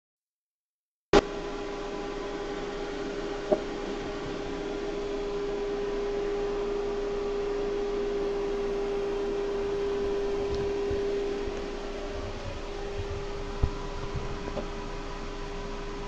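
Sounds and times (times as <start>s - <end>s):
machine humming: 1.2s - 16.0s.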